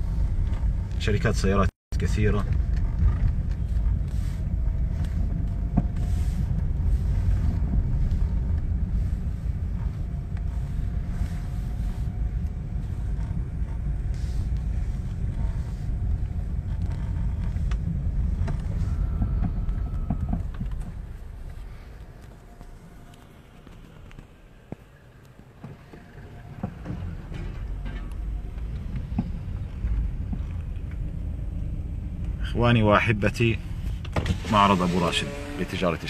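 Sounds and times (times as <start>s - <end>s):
car engine running: 0.0s - 36.0s
road rumble: 0.0s - 36.0s.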